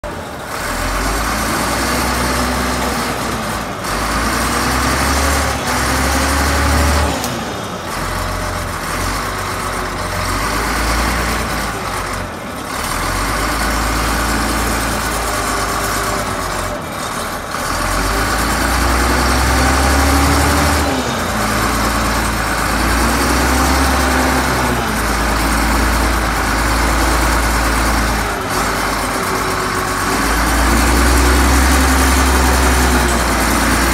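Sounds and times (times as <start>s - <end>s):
bulldozer diesel engine revving: 0.0s - 33.9s.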